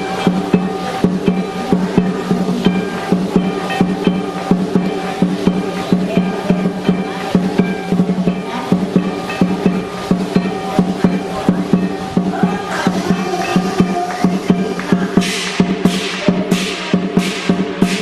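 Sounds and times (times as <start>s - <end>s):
crashing cymbals: 0.0s - 18.0s
drum beating fast rhythm: 0.0s - 18.0s
ringing gong: 0.0s - 18.0s.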